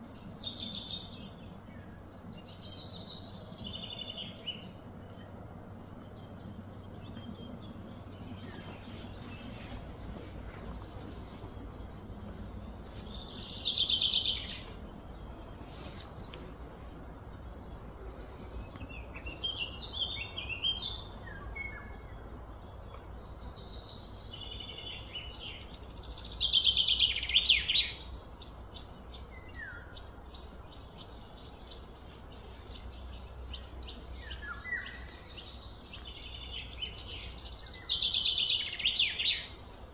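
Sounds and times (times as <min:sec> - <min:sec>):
low background hum: 0:00.0 - 0:39.9
wild birds chirping: 0:00.0 - 0:39.9.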